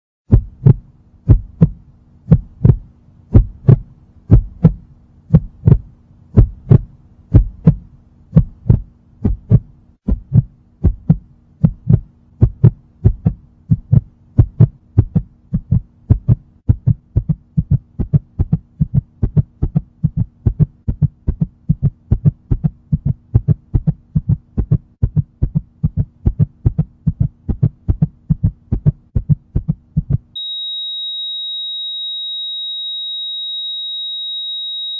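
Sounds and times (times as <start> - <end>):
heartbeat thumps: 0.3 - 30.4
low steady hum: 0.3 - 34.9.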